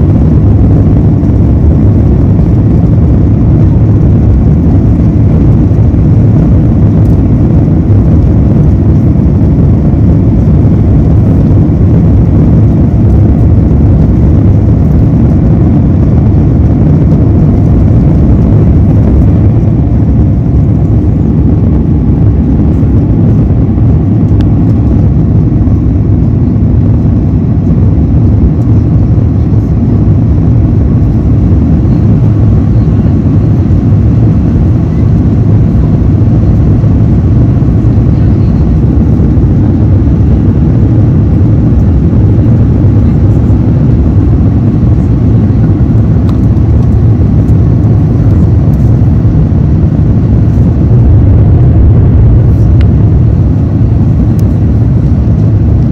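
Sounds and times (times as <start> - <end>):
airflow over fuselage: 0.0 - 55.9
jet engines low rumble: 0.0 - 55.9.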